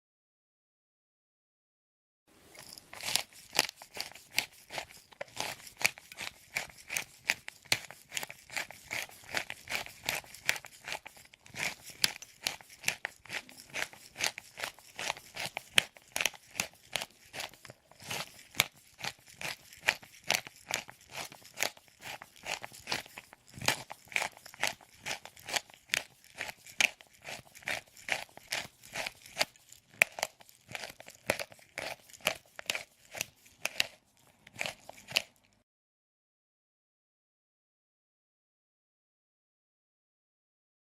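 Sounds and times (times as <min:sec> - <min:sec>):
pepper mill grinding: 0:02.4 - 0:35.6.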